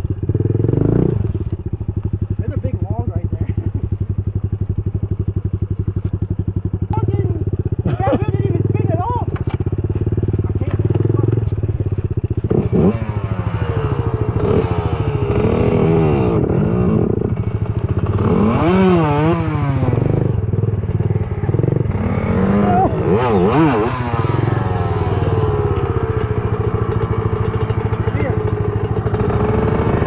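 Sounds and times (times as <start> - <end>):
pit bike engine revving: 0.0 - 1.6, 6.6 - 30.0.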